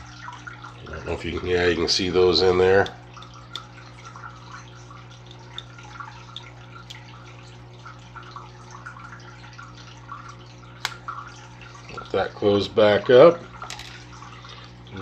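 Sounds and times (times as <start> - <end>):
low equipment hum: 0.0 - 15.0
water trickling: 0.0 - 15.0.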